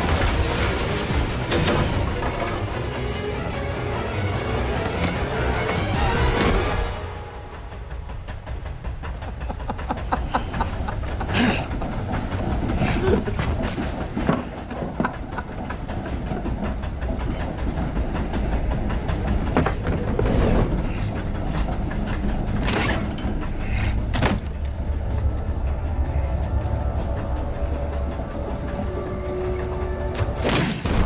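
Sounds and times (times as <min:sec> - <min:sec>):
train rumble and clatter: 0:00.0 - 0:31.0.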